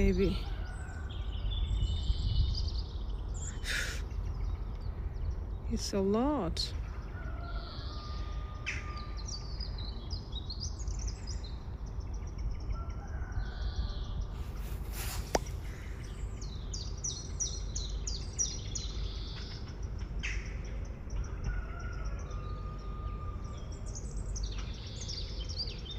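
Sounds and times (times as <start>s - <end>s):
small birds chirping: 0.0s - 25.9s
steady low rumble: 0.0s - 25.9s.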